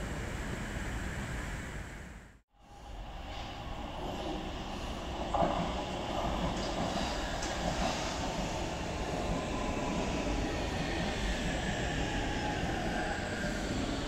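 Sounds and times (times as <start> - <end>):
train wheels rumbling on rails: 2.7 - 14.0.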